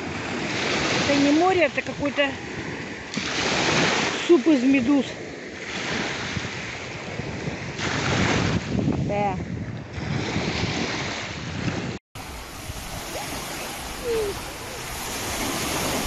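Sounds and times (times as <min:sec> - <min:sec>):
waves breaking on sandy shore: 0:00.0 - 0:16.0
wind on microphone: 0:00.0 - 0:16.0.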